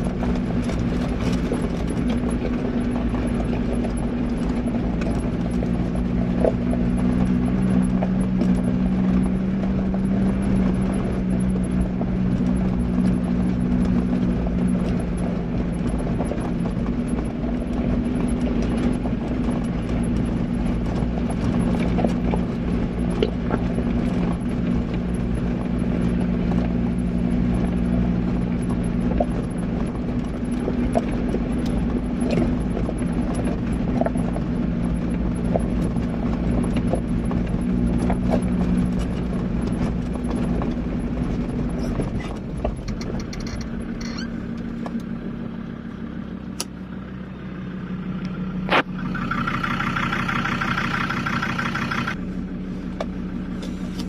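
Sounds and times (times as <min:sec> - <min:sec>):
tyres crunching on gravel: 0:00.0 - 0:46.8, 0:47.8 - 0:54.0
vehicle engine droning: 0:00.0 - 0:54.0.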